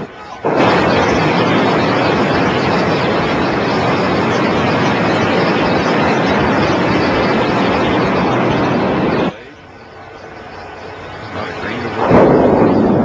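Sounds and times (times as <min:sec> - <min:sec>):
buildings collapsing rumble: 0:00.0 - 0:13.0.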